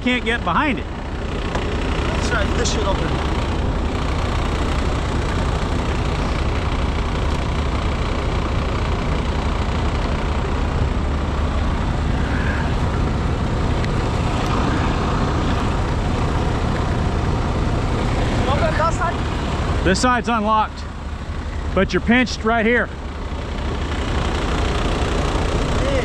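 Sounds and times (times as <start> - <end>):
truck diesel engine idling: 0.0 - 26.0.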